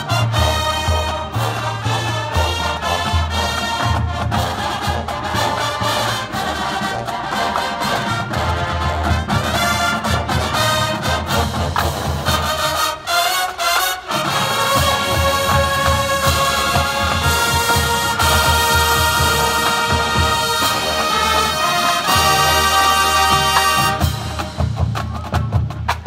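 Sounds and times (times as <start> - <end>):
marching band playing: 0.0 - 26.0.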